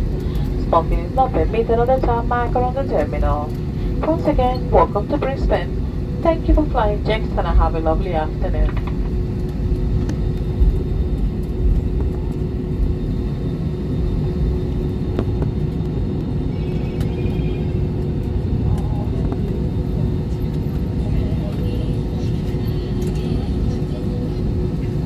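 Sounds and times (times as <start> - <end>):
airliner cabin rumble: 0.0 - 25.0
constant hum tone: 0.0 - 25.0.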